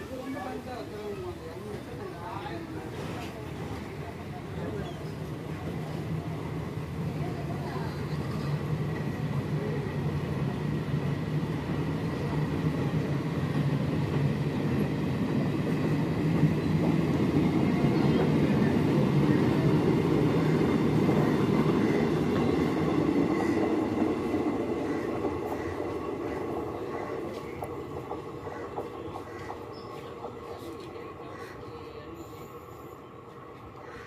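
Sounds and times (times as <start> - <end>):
train wheels rumbling on rails: 0.0 - 31.6.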